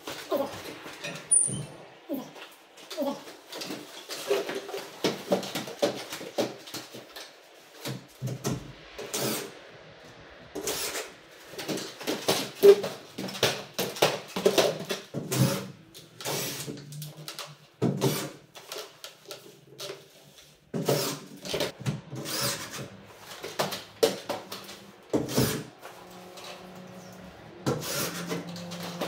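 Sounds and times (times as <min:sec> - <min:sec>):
knocks and clatter of tools: 0:00.0 - 0:09.3, 0:10.6 - 0:29.0.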